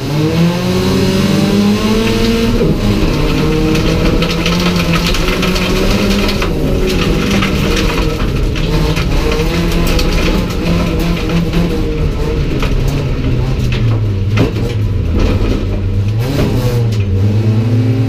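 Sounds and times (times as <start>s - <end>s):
clattering knocks and rattles: 0.0s - 17.6s
race car engine revving: 0.0s - 18.0s.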